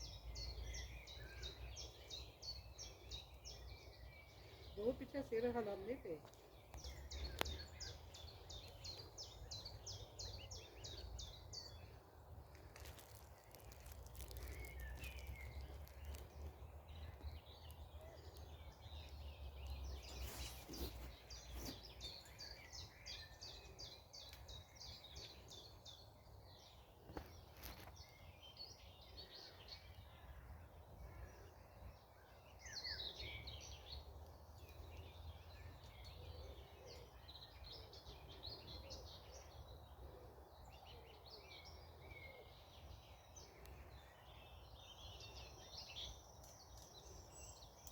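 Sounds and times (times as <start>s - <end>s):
birds singing and calling: 0.0s - 47.9s.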